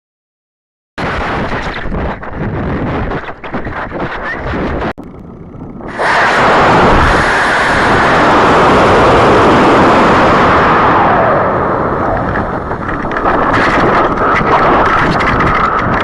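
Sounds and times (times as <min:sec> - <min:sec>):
rocket motor roaring: 0:01.3 - 0:16.0.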